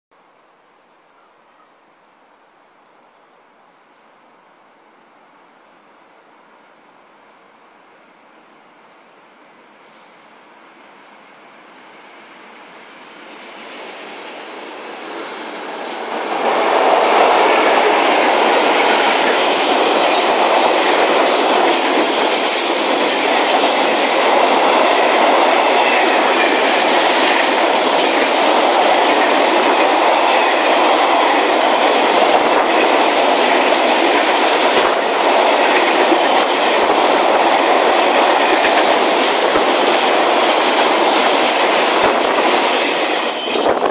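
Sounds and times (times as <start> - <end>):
electric locomotives approaching: 6.6 - 43.9.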